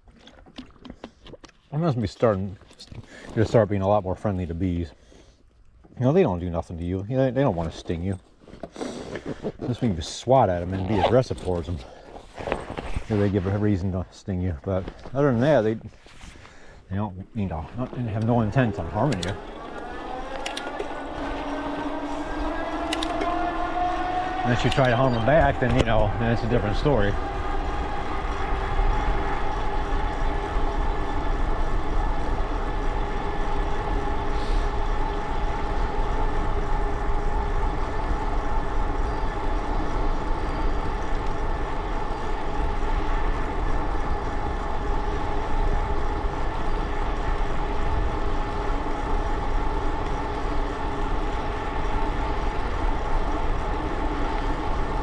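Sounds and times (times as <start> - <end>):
ride rumbling drone: 9.7 - 55.0.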